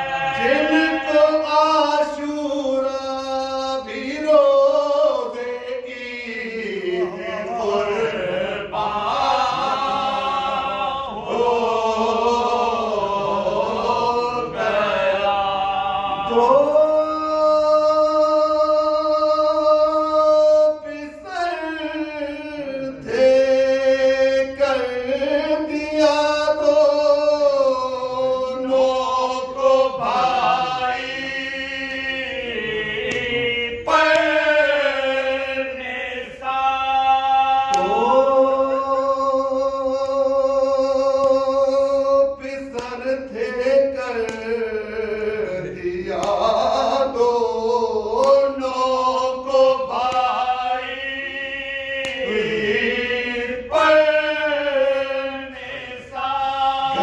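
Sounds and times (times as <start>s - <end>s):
men singing unaccompanied: 0.0s - 57.0s.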